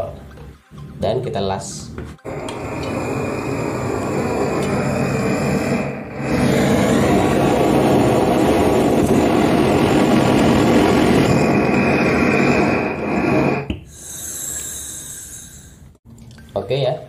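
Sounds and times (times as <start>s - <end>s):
gas torch flame hissing: 2.2s - 16.0s.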